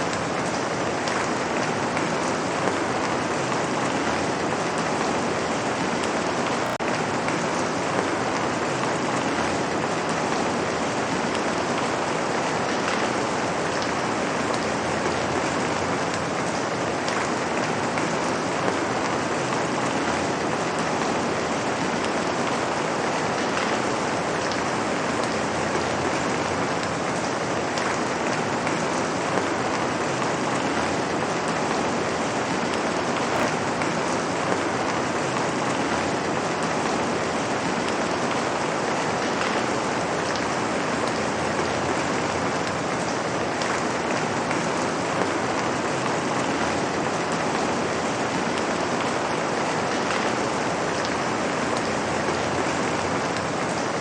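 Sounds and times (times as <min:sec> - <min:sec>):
light rain on pavement: 0:00.0 - 0:54.0.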